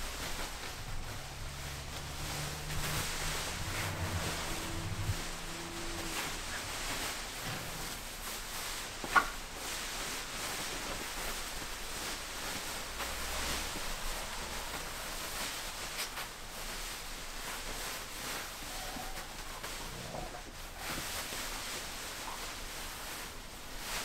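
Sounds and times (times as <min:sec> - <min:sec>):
dogs rustling and scuffling: 0:00.0 - 0:24.0.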